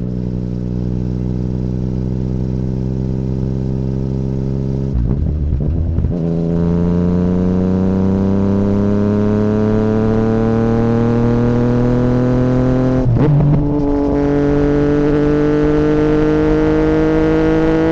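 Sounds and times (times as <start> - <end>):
motorcycle engine accelerating: 0.0 - 17.9.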